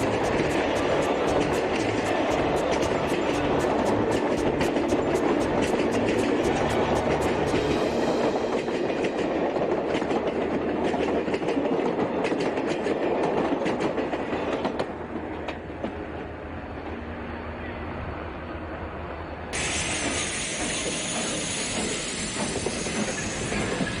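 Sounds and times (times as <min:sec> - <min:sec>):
train wheels clicking on track: 0:00.0 - 0:17.0, 0:19.5 - 0:24.0
train rumble: 0:00.0 - 0:24.0.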